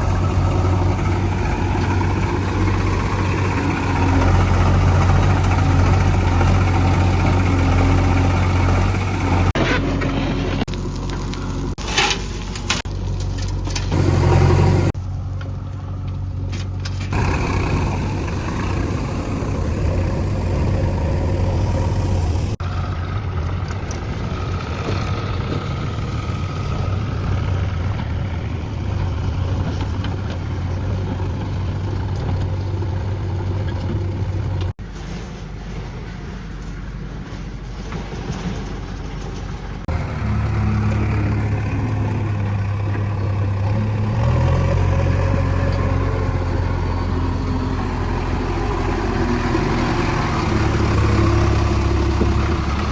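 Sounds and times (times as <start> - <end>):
heavy diesel engine droning: 0.0 - 52.9.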